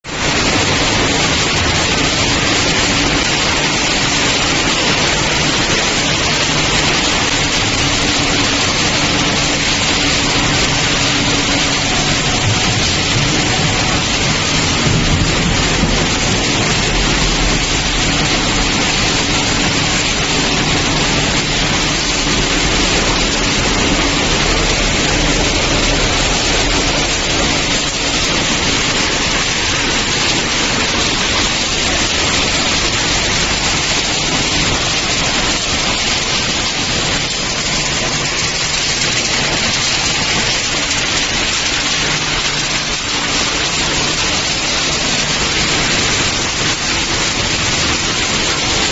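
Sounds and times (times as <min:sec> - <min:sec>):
machinery rushing noise: 0:00.1 - 0:48.9.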